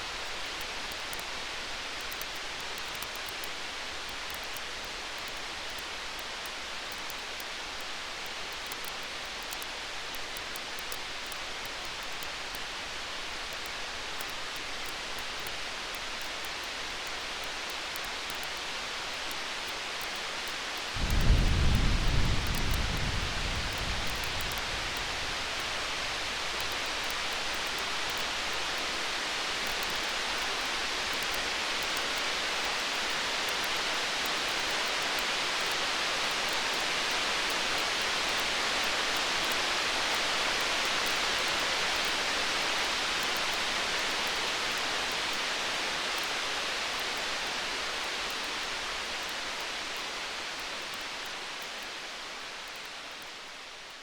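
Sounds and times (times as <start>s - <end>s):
rain-like hiss: 0.0s - 54.0s.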